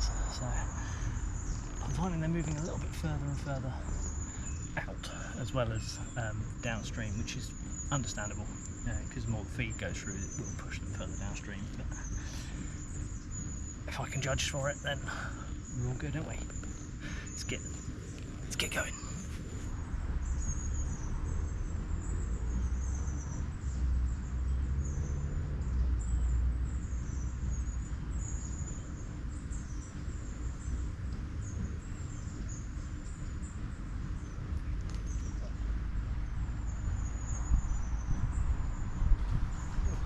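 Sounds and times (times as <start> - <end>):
songbird chirping: 0.0 - 40.0
steady low rumble: 0.0 - 40.0.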